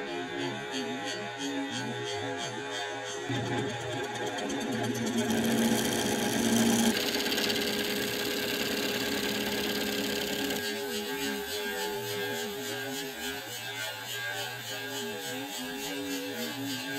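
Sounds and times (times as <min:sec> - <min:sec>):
lathe machine hum: 0:03.3 - 0:16.9
lathe tool cutting hiss: 0:03.3 - 0:16.9.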